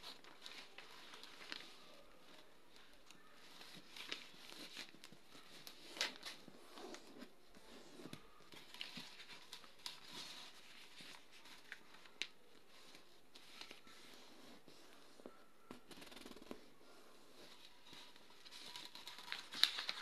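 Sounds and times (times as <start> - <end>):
paper rustling and crackling: 0.0 - 20.0.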